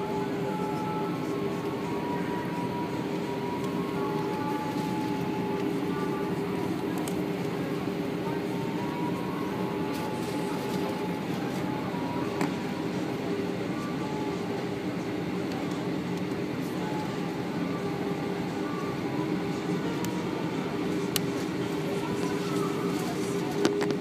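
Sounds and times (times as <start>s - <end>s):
jet engine hum in cabin: 0.0s - 24.0s.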